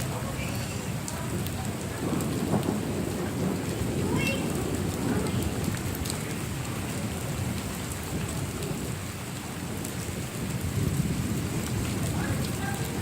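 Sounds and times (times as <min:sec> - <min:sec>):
heavy rain: 0:00.0 - 0:13.0
low thunder rumble: 0:00.0 - 0:13.0.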